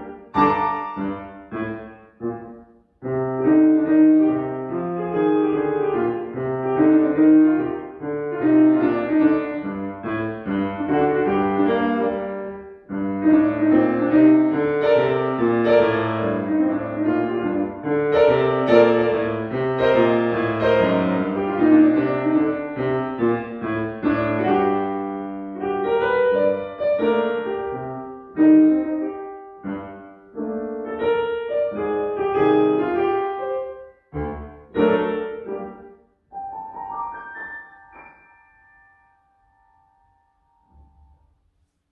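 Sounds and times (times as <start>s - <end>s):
grand piano playing: 0.0s - 41.4s.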